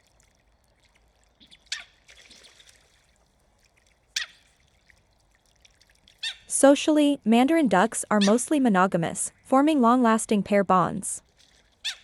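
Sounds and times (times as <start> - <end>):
faint water trickling: 0.0 - 12.0.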